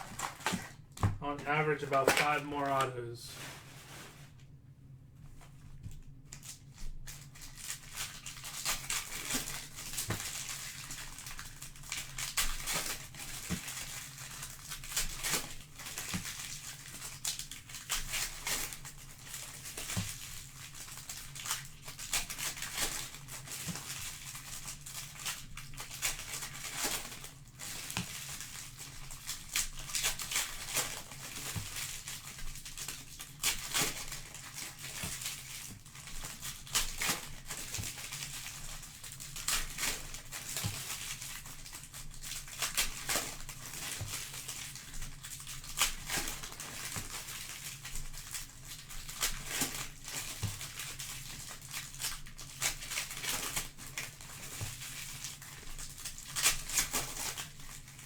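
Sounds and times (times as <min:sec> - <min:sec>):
card packaging tearing and crinkling: 0:00.0 - 0:04.3, 0:06.3 - 0:55.4.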